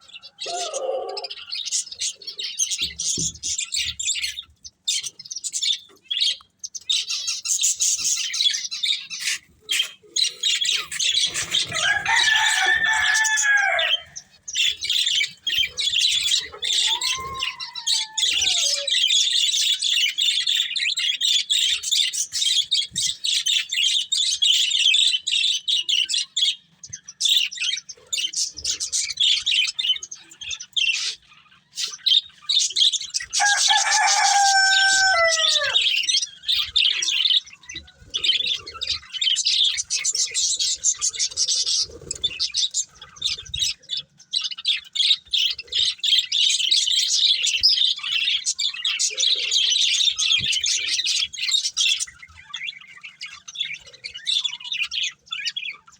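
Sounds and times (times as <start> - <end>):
budgerigars chattering: 0.0 - 55.9.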